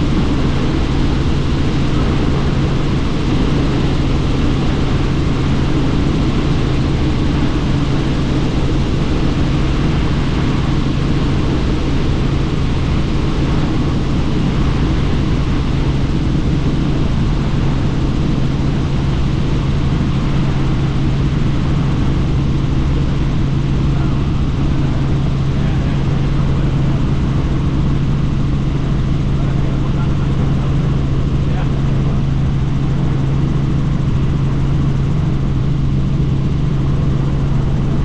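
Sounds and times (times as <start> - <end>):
helicopter rotor and engine drone: 0.0 - 38.0.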